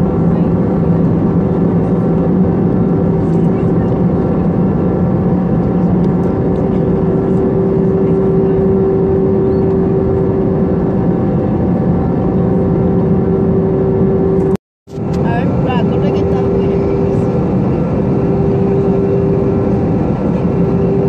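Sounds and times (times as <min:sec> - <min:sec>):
jet engine cabin drone: 0:00.0 - 0:21.0
steady hum tone: 0:00.0 - 0:21.0.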